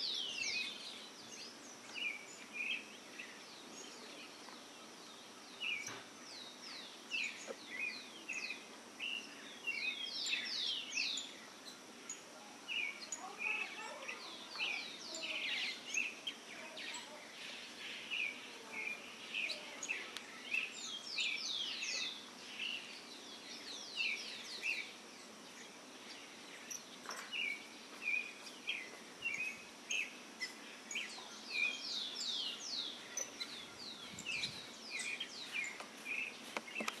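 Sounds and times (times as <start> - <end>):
birds chirping: 0.0 - 37.0
outdoor background hiss: 0.0 - 37.0.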